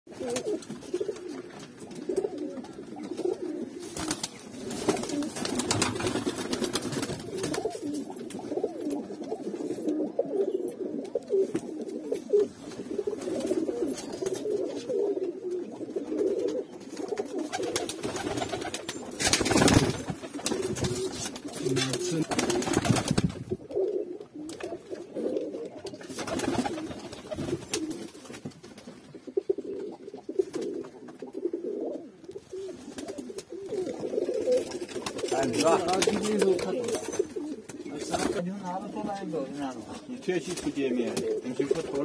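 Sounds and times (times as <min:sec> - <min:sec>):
pigeons cooing: 0:00.1 - 0:28.3, 0:29.0 - 0:42.0.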